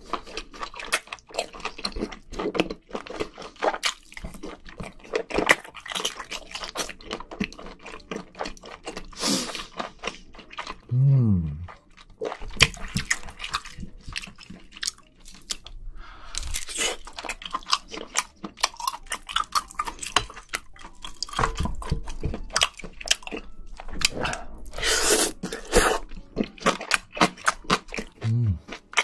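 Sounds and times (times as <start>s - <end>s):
wet chewing clicks and smacks: 0.0s - 10.9s, 11.6s - 15.8s, 16.4s - 29.0s.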